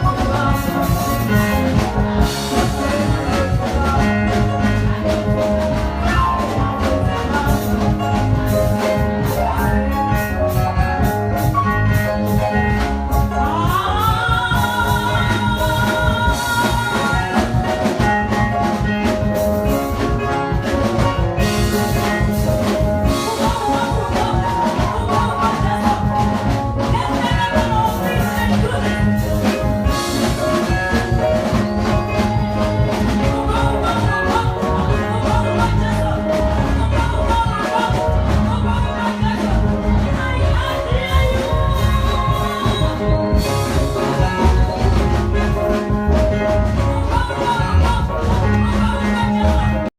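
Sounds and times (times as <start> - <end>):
choir singing with band: 0.0 - 49.9.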